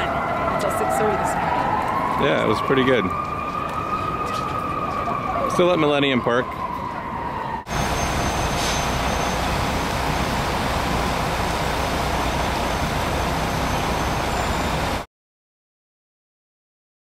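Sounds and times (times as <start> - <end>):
city traffic rumble: 0.0 - 15.1.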